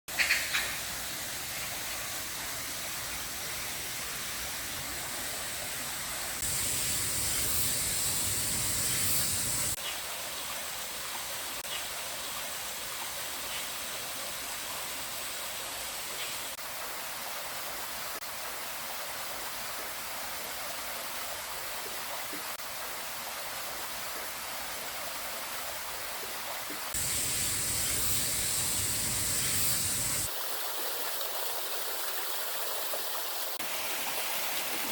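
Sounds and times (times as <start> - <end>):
stream water rushing: 0.3 - 34.9.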